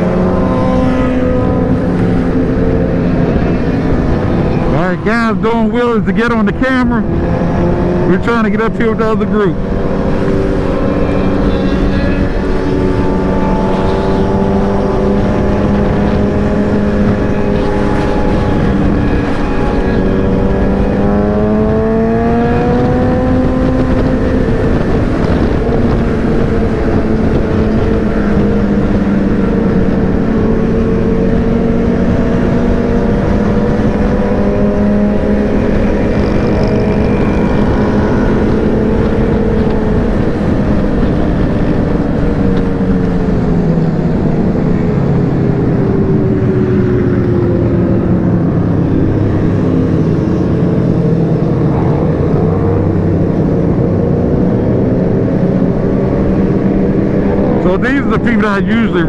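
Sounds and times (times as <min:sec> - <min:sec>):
motorcycle engine at speed: 0:00.0 - 0:58.9
wind rush on microphone: 0:00.0 - 0:59.0.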